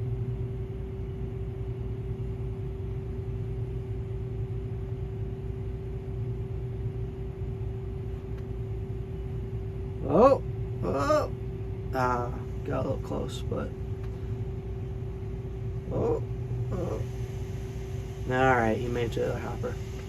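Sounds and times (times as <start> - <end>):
harvester engine drone: 0.0 - 20.0.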